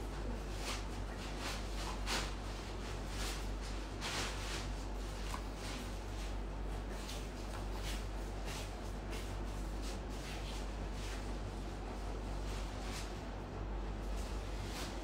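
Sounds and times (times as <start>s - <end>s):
soft rustling and shuffling: 0.0s - 15.0s
steady low hum: 0.0s - 15.0s.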